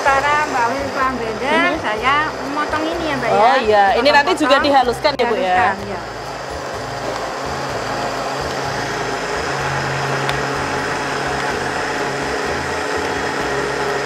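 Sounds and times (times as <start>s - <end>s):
electric blender grinding: 0.0s - 14.0s.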